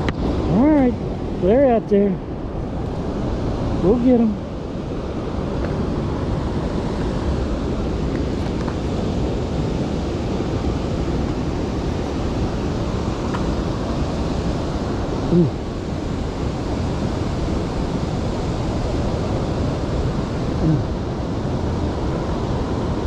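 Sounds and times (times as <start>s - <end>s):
flowing river water: 0.0s - 23.0s
wind on microphone: 0.0s - 23.0s.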